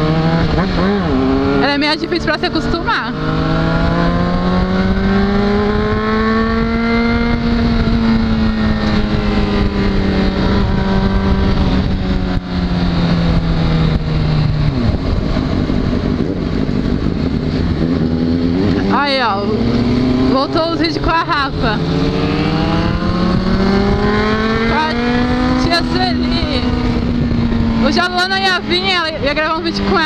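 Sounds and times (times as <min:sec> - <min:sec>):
motorcycle engine cruising: 0:00.0 - 0:30.0
wind noise on microphone: 0:00.0 - 0:30.0.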